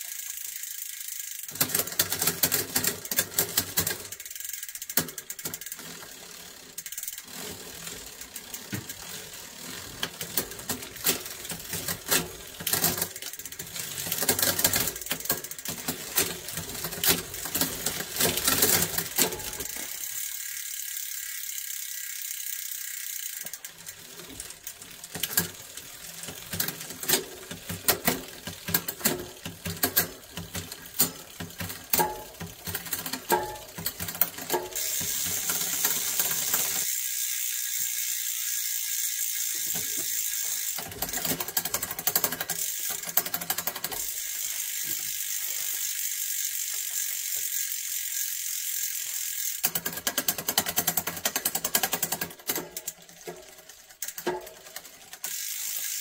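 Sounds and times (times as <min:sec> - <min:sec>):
bicycle chain over cassette: 0:00.0 - 0:56.0
rapid ratcheting click: 0:00.0 - 0:56.0.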